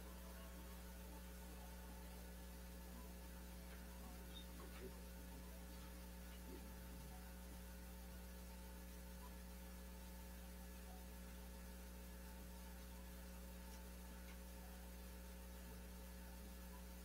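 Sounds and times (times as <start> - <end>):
low electrical mains hum: 0.0 - 17.0.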